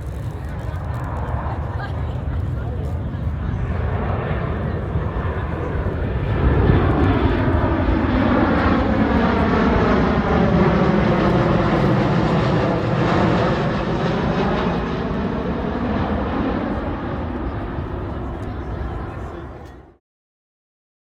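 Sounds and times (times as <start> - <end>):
jet airliner flying past: 0.0 - 20.0.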